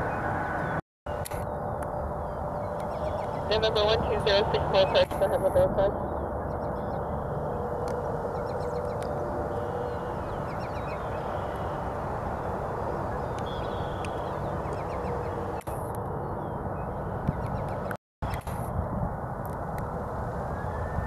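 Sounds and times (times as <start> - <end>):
low rumble of airport noise: 0.0 - 21.0.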